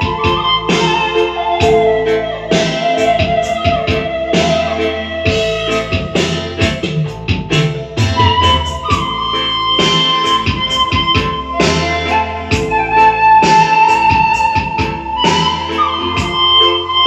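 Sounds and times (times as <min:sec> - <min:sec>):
bamboo flute melody: 0:00.0 - 0:17.0
band accompaniment with beat: 0:00.0 - 0:17.0.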